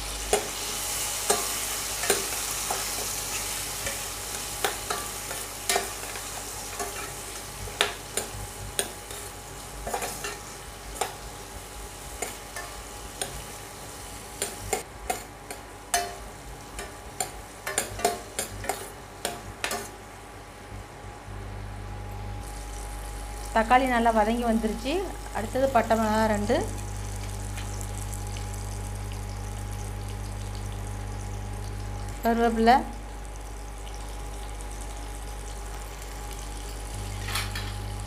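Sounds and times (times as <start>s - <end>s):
vegetables sizzling in hot oil: 0.0s - 20.1s, 22.4s - 38.0s.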